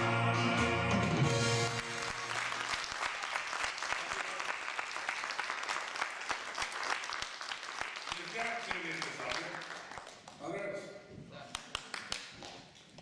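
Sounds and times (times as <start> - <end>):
audience applauding: 1.4 - 10.4, 11.5 - 13.0.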